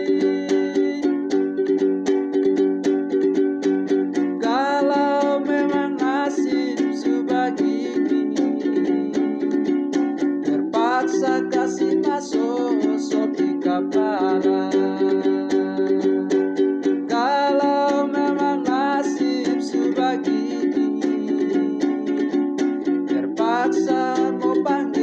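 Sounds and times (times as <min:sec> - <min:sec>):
acoustic string instrument strumming: 0:00.0 - 0:25.0.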